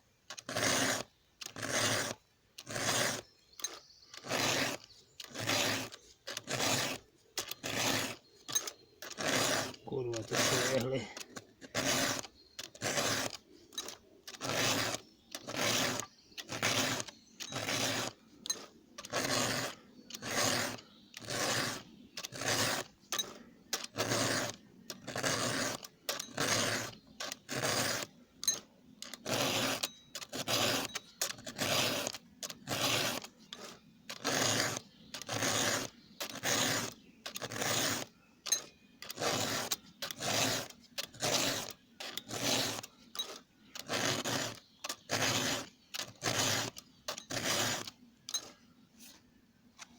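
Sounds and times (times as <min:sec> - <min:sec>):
file rasping on chainsaw chain: 0:00.3 - 0:48.6.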